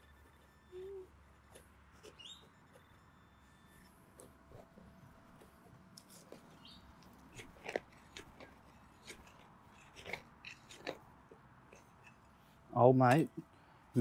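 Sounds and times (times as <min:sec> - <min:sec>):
soil being dug and raked: 0:00.0 - 0:13.3.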